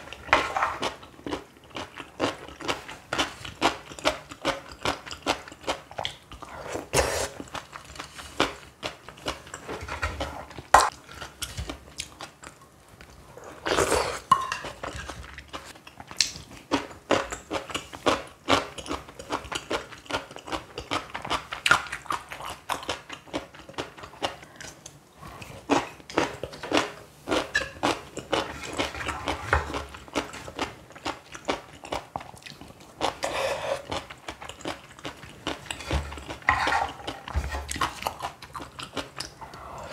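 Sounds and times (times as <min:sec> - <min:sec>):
person chewing and crunching: 0:00.0 - 0:12.6, 0:13.4 - 0:39.9.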